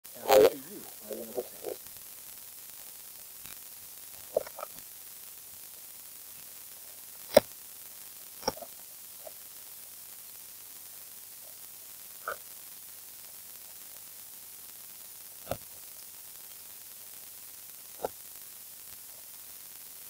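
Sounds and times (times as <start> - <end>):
open microphone hiss: 0.0 - 20.0.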